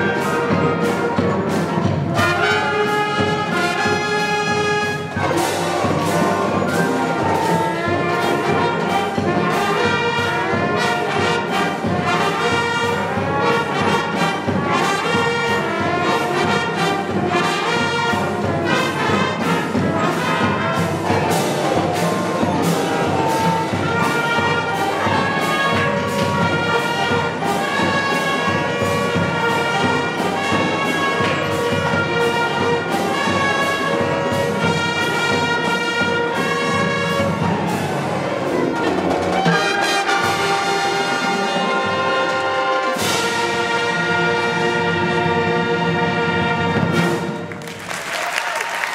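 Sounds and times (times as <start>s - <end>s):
marching band brass and woodwinds: 0.0s - 48.9s
steady drum beat: 0.0s - 48.9s.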